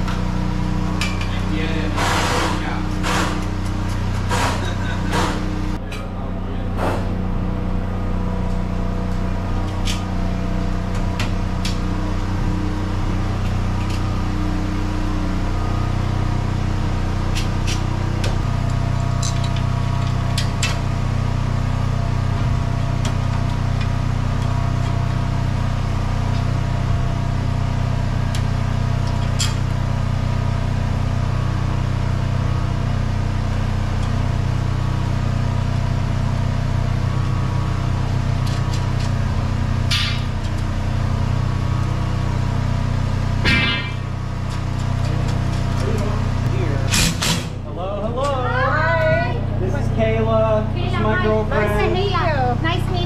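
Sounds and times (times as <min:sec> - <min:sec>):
motor humming: 0:00.0 - 0:53.0.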